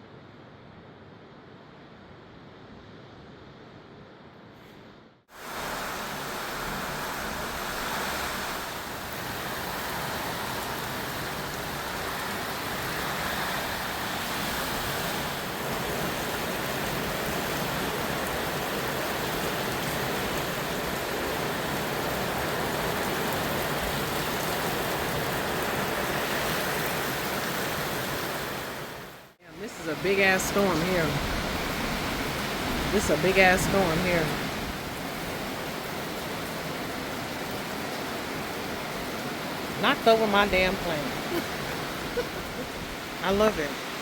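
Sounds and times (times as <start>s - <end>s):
heavy rain pouring: 5.3s - 44.0s.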